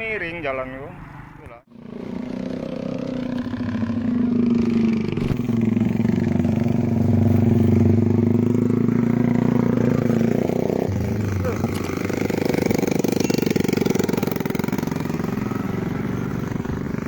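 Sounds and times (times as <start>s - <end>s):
vehicle engine running: 1.7s - 17.0s.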